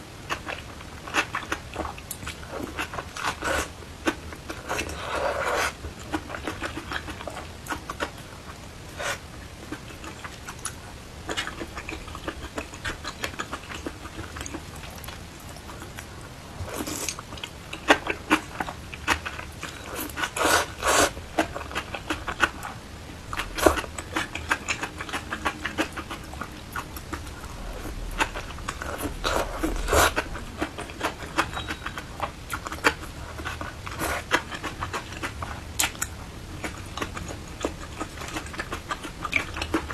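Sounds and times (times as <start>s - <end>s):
chewing and mouth sounds: 0.2s - 39.9s.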